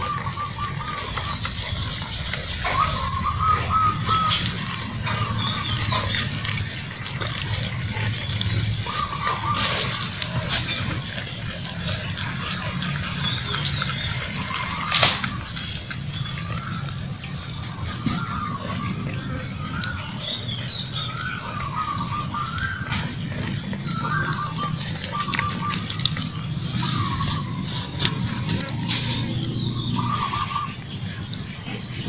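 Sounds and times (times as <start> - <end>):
puppies chewing and smacking: 0.0 - 32.0.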